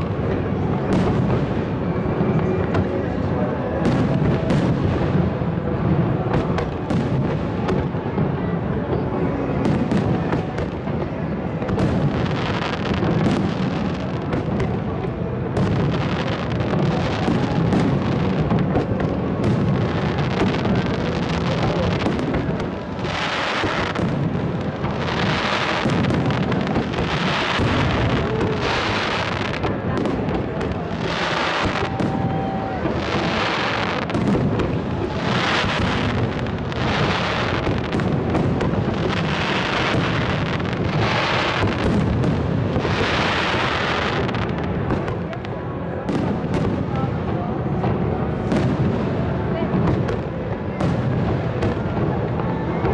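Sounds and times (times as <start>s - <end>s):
crackling firework bursts: 0.0s - 52.9s
fireworks bangs and booms: 0.0s - 52.9s.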